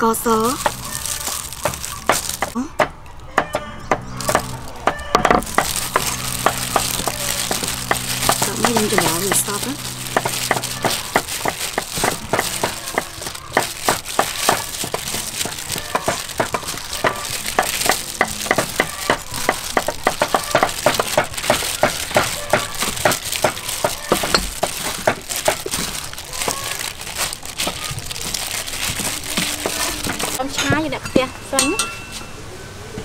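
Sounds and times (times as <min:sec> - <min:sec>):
plastic crinkling: 0:00.0 - 0:02.6, 0:04.0 - 0:30.5.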